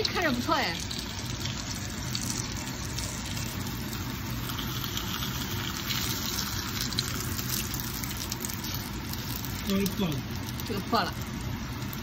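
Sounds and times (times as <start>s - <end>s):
dumplings sizzling in oil: 0.0s - 12.0s.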